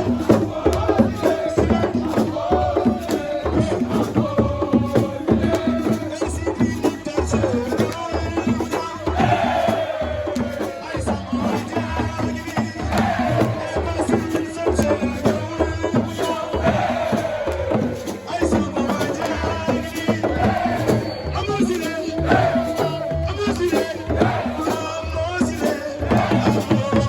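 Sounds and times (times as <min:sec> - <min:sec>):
percussion-driven music: 0:00.0 - 0:27.0.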